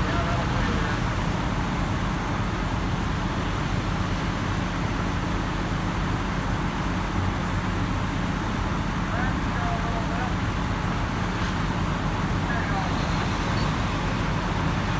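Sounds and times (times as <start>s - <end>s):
heavy equipment diesel engines droning: 0.0s - 14.9s.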